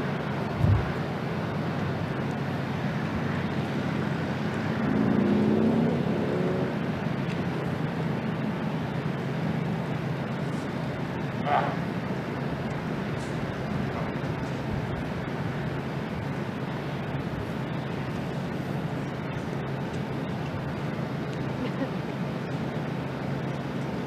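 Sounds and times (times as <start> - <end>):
motor vehicle passing: 0.0 - 22.6
traffic rumble with low hum: 0.0 - 24.0.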